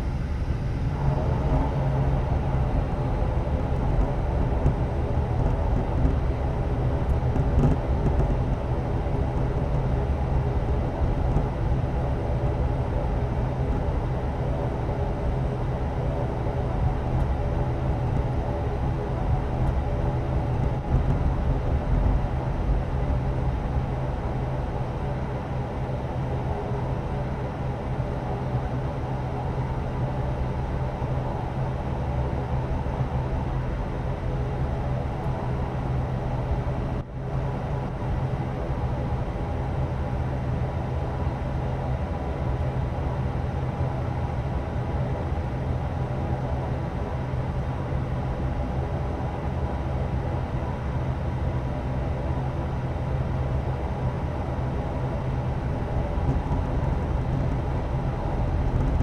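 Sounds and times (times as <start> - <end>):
propeller engines humming: 0.0 - 59.0.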